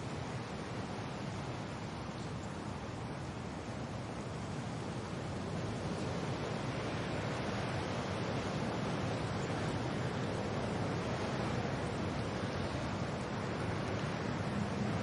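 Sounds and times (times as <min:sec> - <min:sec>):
wind and rain rushing hiss: 0:00.0 - 0:15.0.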